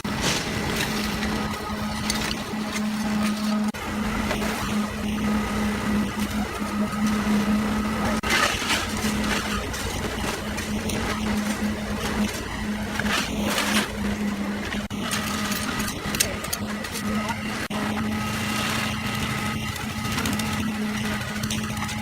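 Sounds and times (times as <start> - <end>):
engine humming steadily: 0.0 - 22.0.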